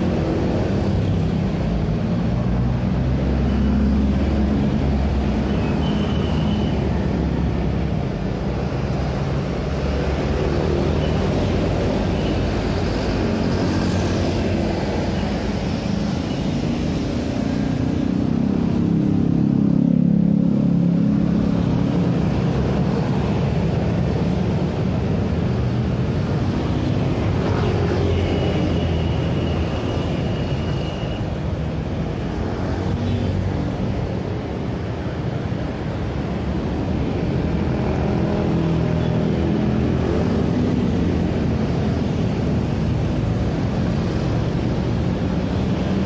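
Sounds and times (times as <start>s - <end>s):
scooters and cars passing: 0.0s - 46.0s.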